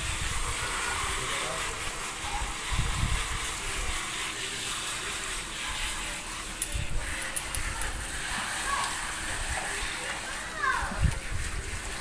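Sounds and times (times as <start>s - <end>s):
water hissing from hose nozzle: 0.0s - 12.0s.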